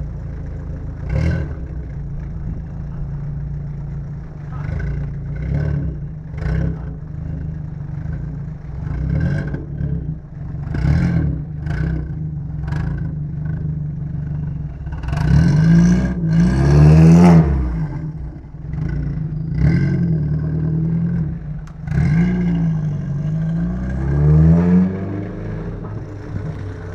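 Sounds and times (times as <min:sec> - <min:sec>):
car engine idling and revving: 0:00.0 - 0:26.9.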